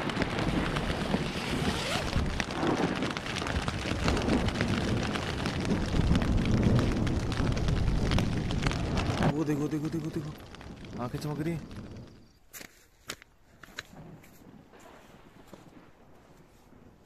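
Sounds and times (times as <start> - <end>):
wind rumbling on microphone: 0.0 - 12.4, 13.7 - 17.0
rain pattering on a tent: 0.0 - 17.0.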